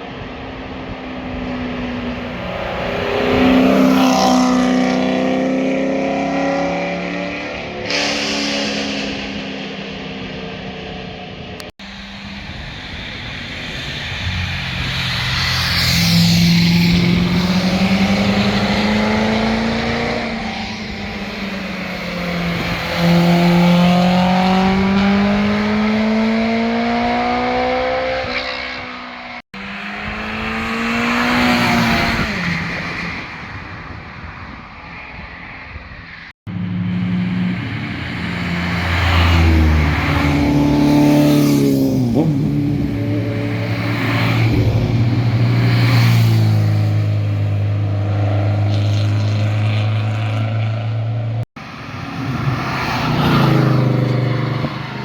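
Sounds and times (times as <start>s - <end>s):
car engines revving past: 0.1s - 55.0s.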